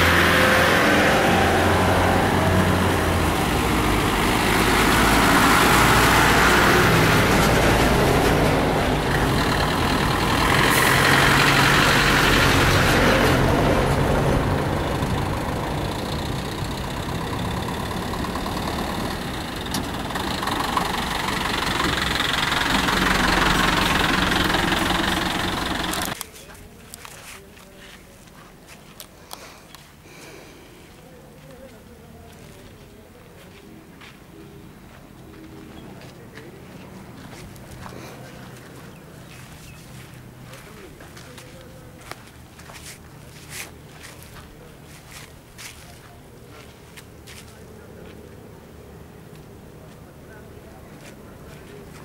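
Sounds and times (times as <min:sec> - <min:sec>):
bus diesel engine driving off: 0:00.0 - 0:26.2, 0:34.6 - 0:52.0.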